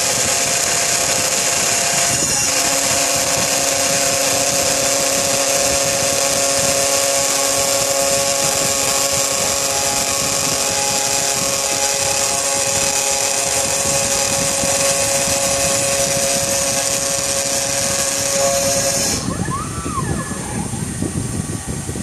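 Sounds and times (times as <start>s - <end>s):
cutting hiss on plastic: 0.0s - 19.3s
router spindle high whine: 0.0s - 22.0s.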